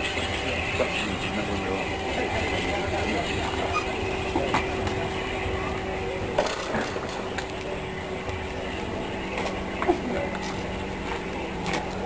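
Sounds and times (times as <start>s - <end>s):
steam locomotive rumble: 0.0s - 12.0s.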